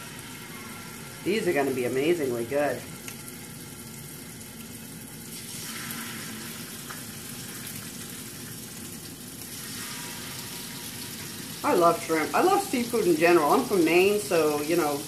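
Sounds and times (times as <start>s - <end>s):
shrimp sizzling in a pan: 2.8s - 15.0s.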